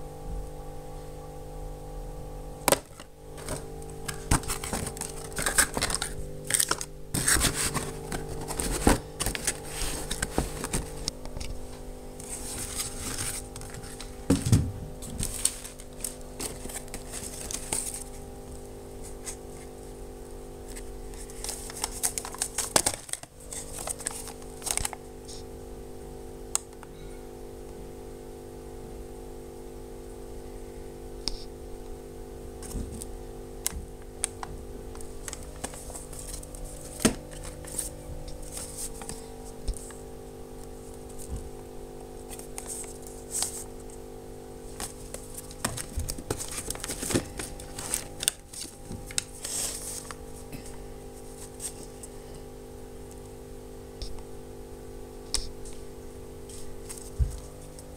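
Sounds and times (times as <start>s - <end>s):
steady electrical hum: 0.0s - 57.9s.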